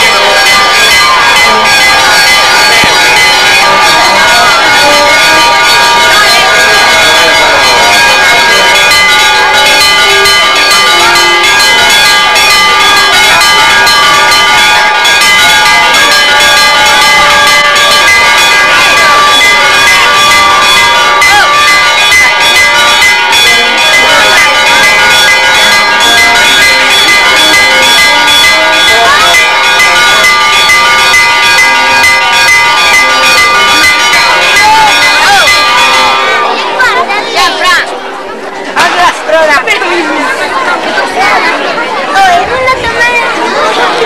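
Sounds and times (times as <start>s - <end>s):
church bells pealing: 0.0s - 44.0s
crowd murmur: 0.0s - 44.0s.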